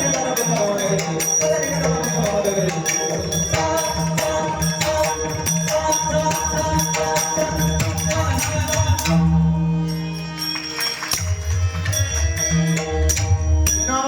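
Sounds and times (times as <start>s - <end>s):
hand cymbals striking: 0.0s - 14.0s.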